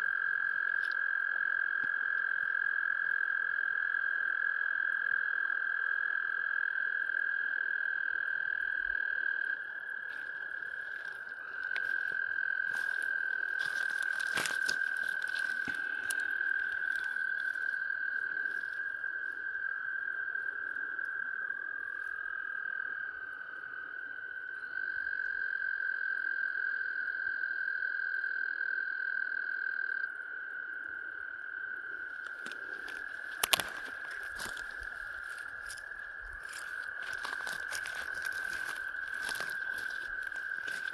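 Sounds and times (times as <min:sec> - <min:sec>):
lower-pitched frog trill: 0:00.0 - 0:30.2, 0:31.2 - 0:40.9
frogs trilling: 0:00.0 - 0:40.9.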